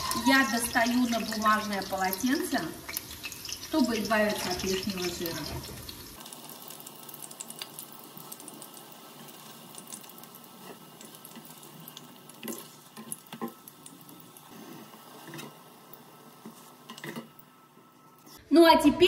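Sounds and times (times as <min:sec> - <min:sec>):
oil sizzling in frying pan: 0:00.0 - 0:18.4.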